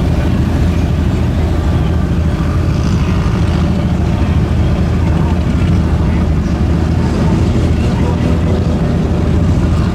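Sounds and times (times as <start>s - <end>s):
vehicle engine running steadily: 0.0s - 9.9s.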